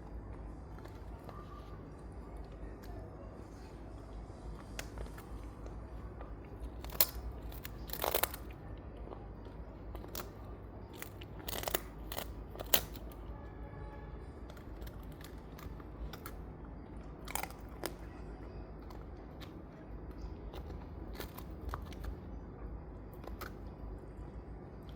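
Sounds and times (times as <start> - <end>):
dog gnawing a bone: 0.1 - 13.3, 14.3 - 24.9.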